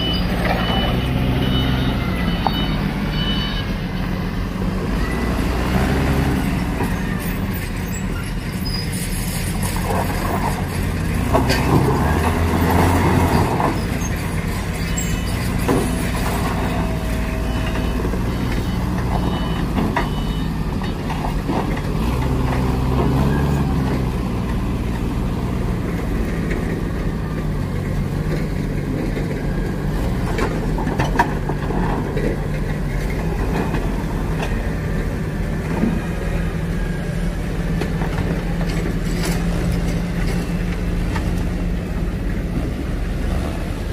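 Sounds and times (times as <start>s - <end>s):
forklift engine running: 0.0s - 43.9s.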